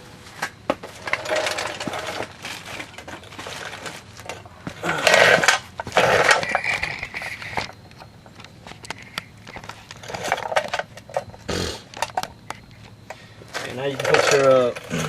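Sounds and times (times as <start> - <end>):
metallic scraping and clanking: 0.4 - 12.9, 13.5 - 15.0.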